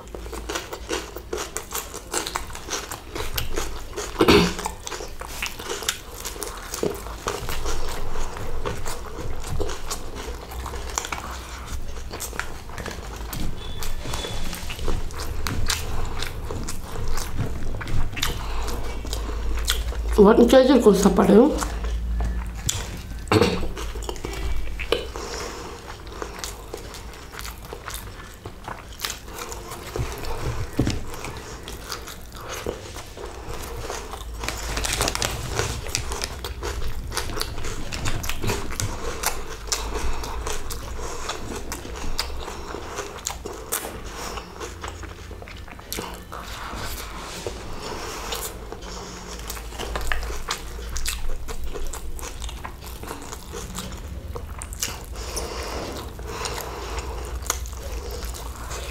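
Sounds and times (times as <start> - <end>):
mouth clicks and crunches: 0.0 - 20.2, 20.9 - 58.9
person chewing food: 0.0 - 58.9.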